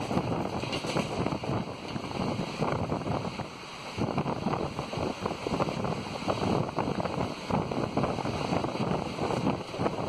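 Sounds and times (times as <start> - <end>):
train wheels rumbling and rattling: 0.0 - 10.0
wind buffeting microphone: 0.0 - 10.0.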